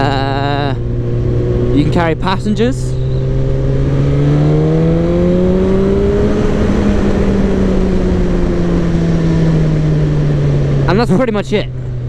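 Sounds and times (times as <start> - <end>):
motorcycle engine accelerating: 0.0 - 12.0
wind rushing over microphone: 0.8 - 11.0.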